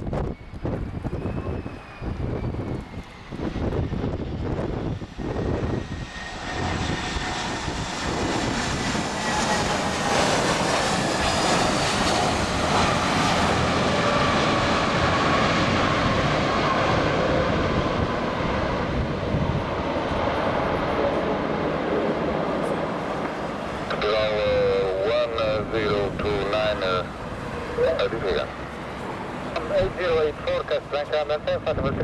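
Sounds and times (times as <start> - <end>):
jet engines passing close: 0.0 - 32.0.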